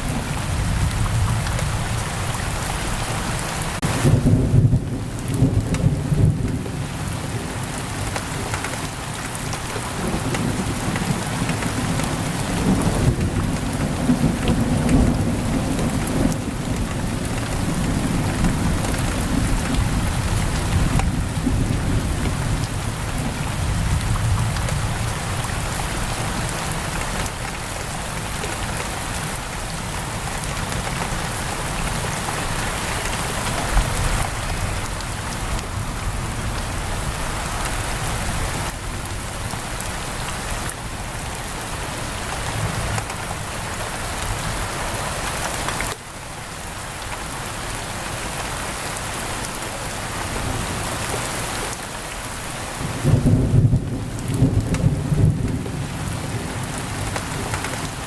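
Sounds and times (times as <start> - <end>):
heavy rain on a window: 0.0 - 58.0.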